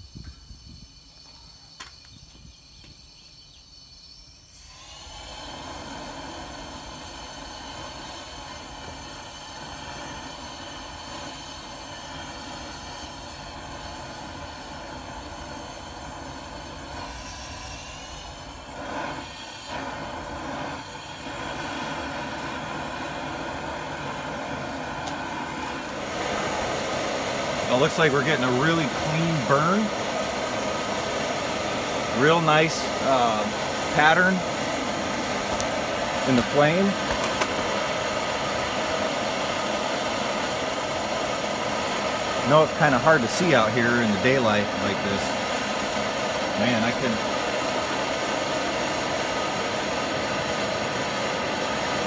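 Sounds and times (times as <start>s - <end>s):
burner roaring: 4.7s - 52.0s
soft flame flutter: 5.4s - 52.0s.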